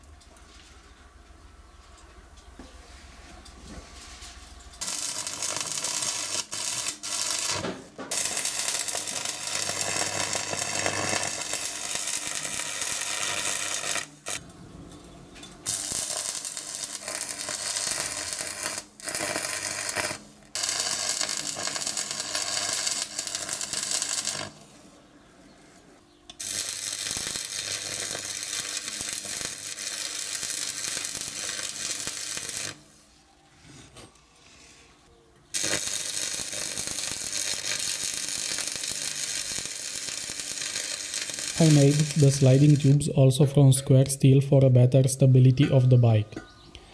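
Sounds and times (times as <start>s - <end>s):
arc welding crackling and sizzling: 0.0s - 24.8s, 26.3s - 33.2s, 35.5s - 43.1s.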